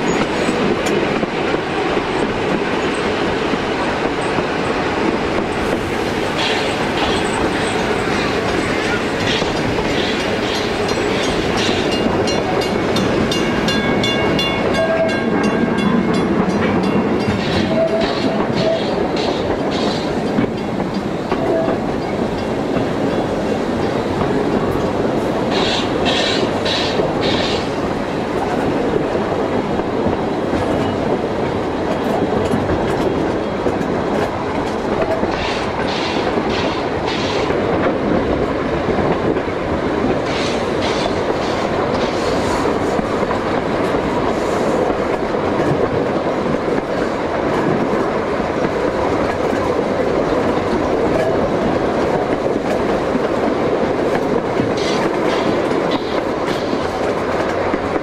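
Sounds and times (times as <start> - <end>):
clickety-clack over rail joints: 0.0 - 58.0
train wheels rumbling on rails: 0.0 - 58.0.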